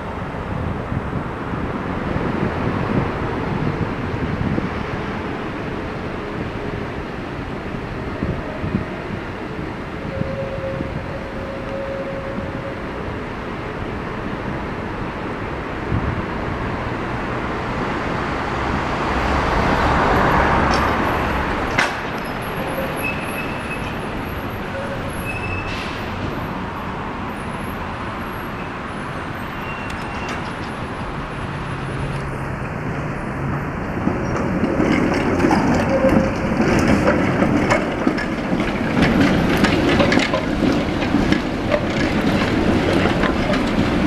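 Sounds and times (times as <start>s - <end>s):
street traffic noise: 0.0s - 44.0s.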